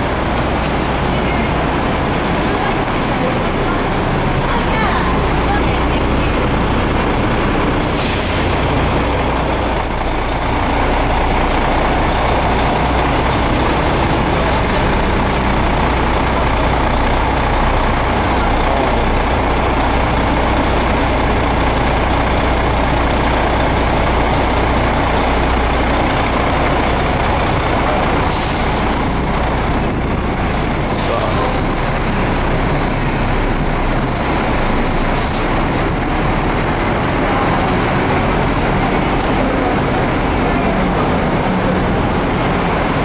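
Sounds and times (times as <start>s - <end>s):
idling buses and cars: 0.0s - 43.0s.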